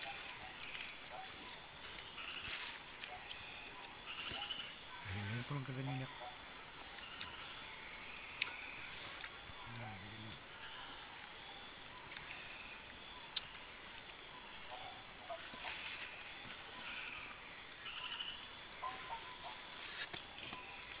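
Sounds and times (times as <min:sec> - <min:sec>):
crickets and night insects chirping: 0:00.0 - 0:21.0.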